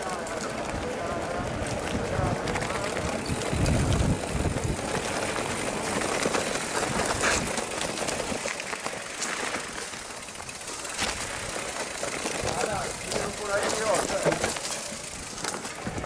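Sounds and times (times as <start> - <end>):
bike rattling and clicking: 0.0 - 16.0
bike tyres on dirt trail: 0.0 - 16.0.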